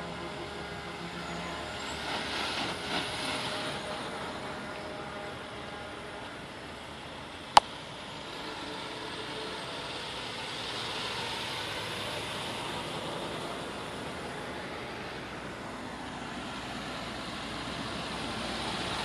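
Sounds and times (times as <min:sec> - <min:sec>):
truck driving past: 0:00.0 - 0:19.0.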